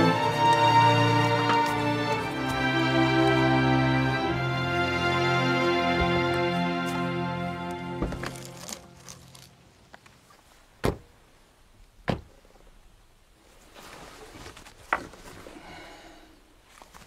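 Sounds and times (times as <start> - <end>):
faint background noise: 0.0 - 17.0.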